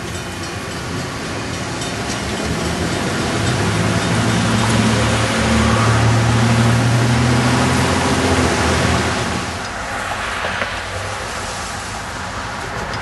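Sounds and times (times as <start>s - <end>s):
outdoor hiss: 0.0s - 12.7s
car engine and road noise: 0.0s - 13.0s.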